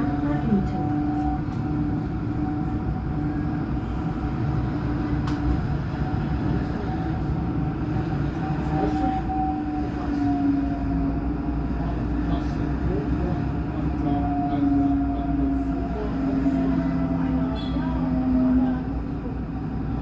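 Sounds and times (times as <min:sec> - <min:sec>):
tram wheels rumbling on rail: 0:00.0 - 0:20.0.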